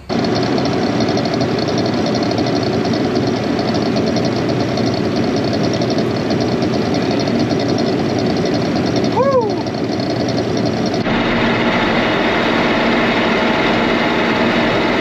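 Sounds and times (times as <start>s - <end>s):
tractor engine running steadily: 0.0s - 15.0s.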